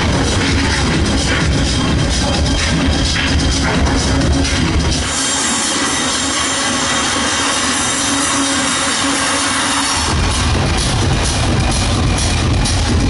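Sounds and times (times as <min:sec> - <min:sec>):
bass: 0:00.0 - 0:13.0
electronic dance music: 0:00.0 - 0:13.0.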